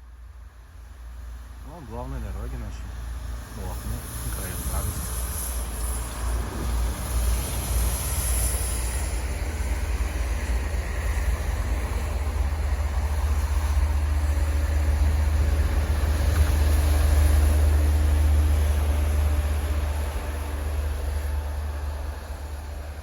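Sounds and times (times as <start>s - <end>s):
wind buffeting microphone: 3.6s - 22.8s.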